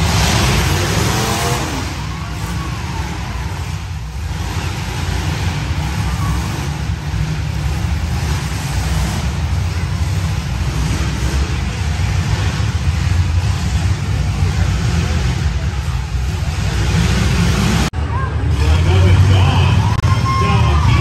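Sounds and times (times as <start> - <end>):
car engines rumbling: 0.0 - 21.0.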